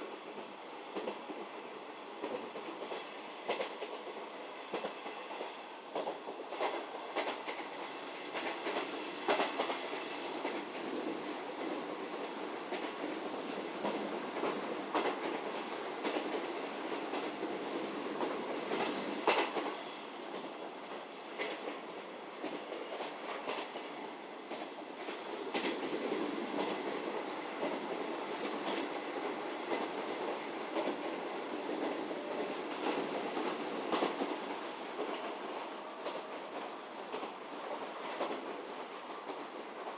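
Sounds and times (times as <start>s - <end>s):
train running gear rumble: 0.3s - 39.9s.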